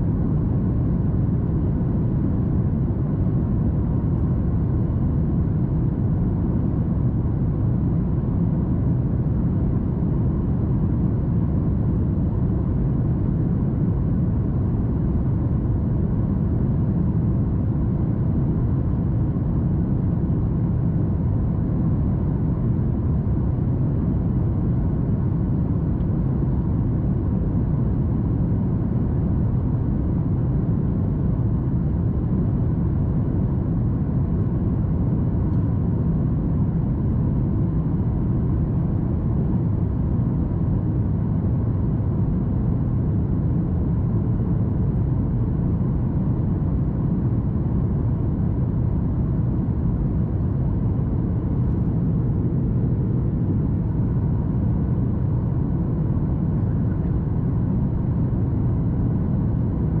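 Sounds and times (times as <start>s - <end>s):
airplane cabin engine roar: 0.0s - 60.0s
faint steady hum: 0.0s - 60.0s.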